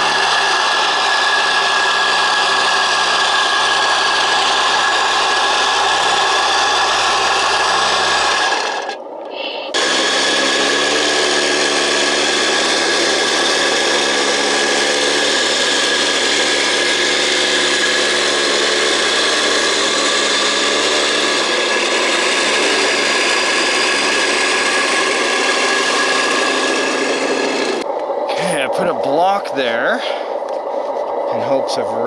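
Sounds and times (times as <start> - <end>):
motor and hydraulic pump whine: 0.0 - 9.0, 9.7 - 32.0
grinding noise: 0.0 - 9.1, 9.7 - 32.0.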